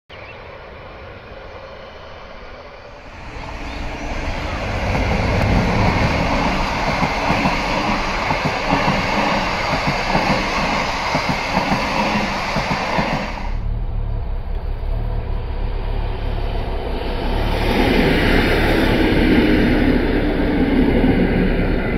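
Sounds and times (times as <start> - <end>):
train wheels rumbling on rails: 2.9 - 21.9.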